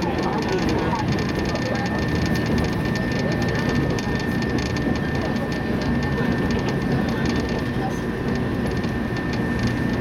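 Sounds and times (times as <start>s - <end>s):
train wheels and motors rumbling: 0.0s - 10.0s.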